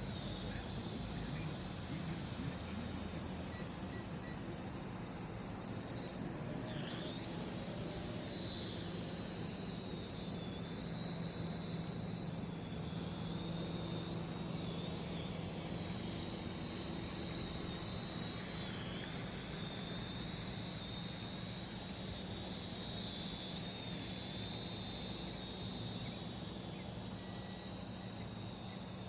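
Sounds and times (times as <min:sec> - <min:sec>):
quadcopter propellers whining: 0:00.0 - 0:29.0
steady low hum: 0:00.0 - 0:29.0.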